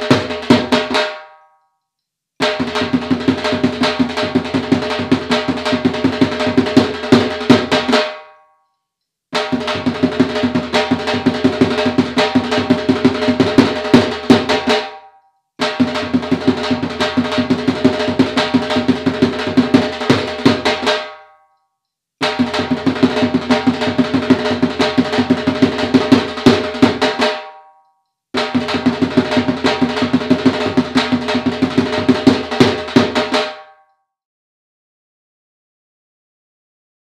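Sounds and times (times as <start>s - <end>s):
dhol drumming with sticks: 0.0s - 1.5s, 2.4s - 8.4s, 9.4s - 21.4s, 22.2s - 27.8s, 28.4s - 33.9s.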